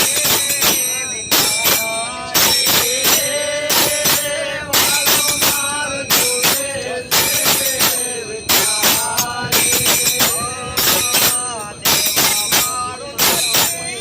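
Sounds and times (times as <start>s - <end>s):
hand percussion with jingles: 0.0s - 14.0s.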